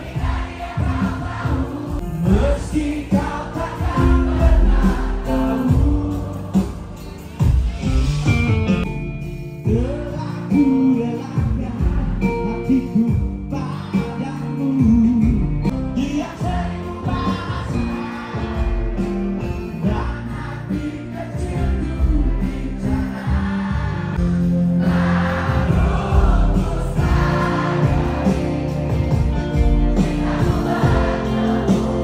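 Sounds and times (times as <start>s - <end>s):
live rock band with vocals: 0.0s - 32.0s.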